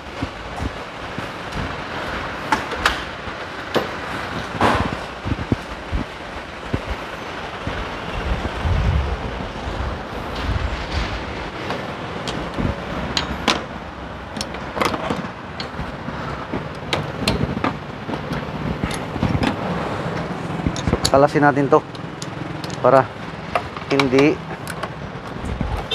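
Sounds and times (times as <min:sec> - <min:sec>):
traffic rumble: 0:00.0 - 0:25.9.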